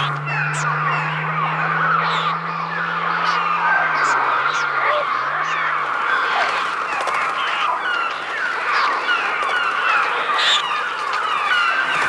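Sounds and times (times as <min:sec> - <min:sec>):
electronic bird cries: 0:00.0 - 0:12.0.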